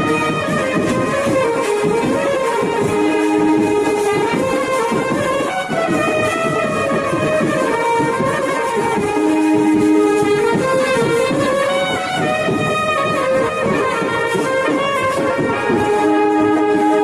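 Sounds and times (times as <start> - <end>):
busy drum beat: 0.0 - 17.0
horns playing held notes: 0.0 - 17.0.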